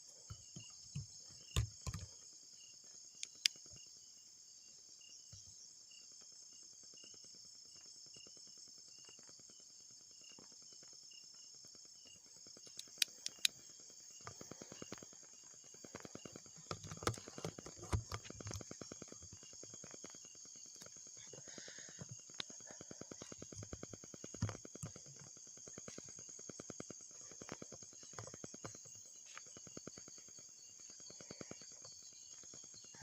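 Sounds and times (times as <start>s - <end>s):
night insects trilling: 0.0s - 33.0s.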